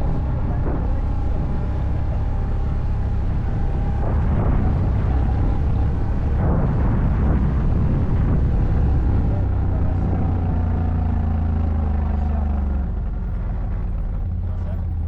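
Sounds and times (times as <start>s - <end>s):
engine running loudly: 0.0s - 15.0s.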